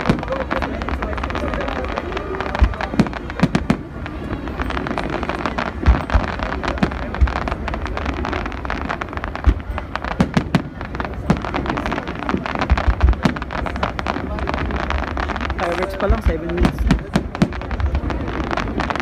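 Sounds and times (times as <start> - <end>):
fireworks booms: 0.0 - 19.0
fireworks crackling: 0.0 - 19.0.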